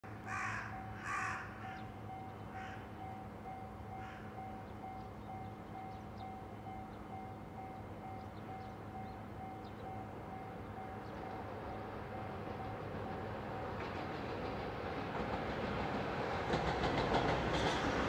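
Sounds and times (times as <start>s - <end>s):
low urban hum: 0.1s - 18.0s.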